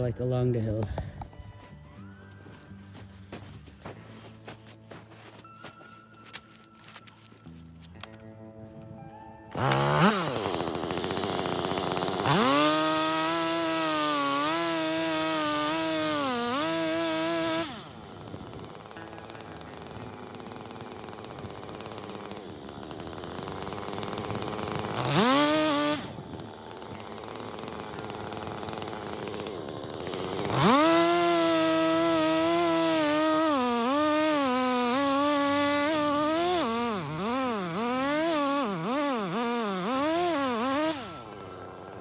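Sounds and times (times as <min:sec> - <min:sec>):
chainsaw revving: 0:02.9 - 0:08.2, 0:09.5 - 0:42.0.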